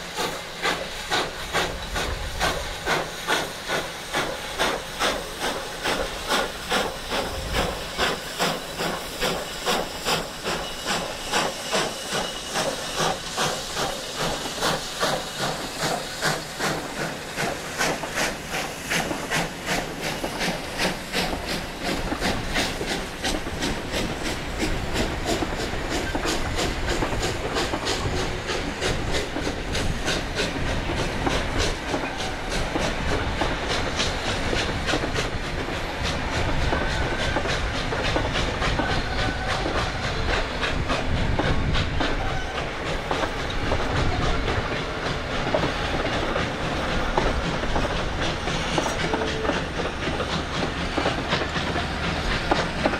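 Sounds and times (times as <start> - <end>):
steam hissing: 0.0 - 52.9
steam locomotive chuffing: 0.0 - 52.9.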